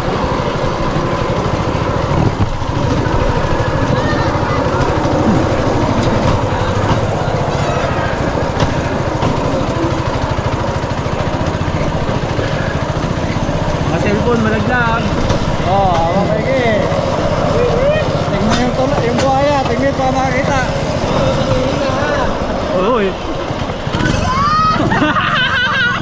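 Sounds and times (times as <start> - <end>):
rail trolley engine running: 0.0 - 26.0.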